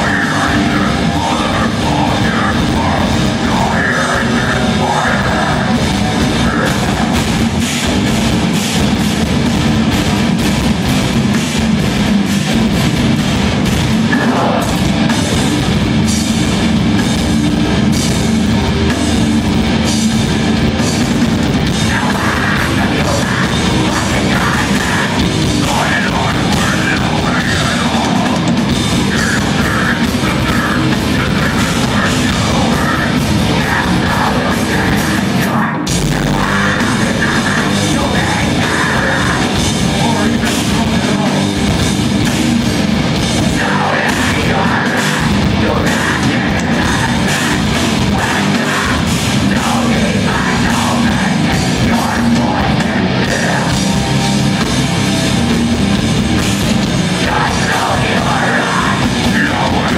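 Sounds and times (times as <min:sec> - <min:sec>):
heavy rock band playing live: 0:00.0 - 0:59.9.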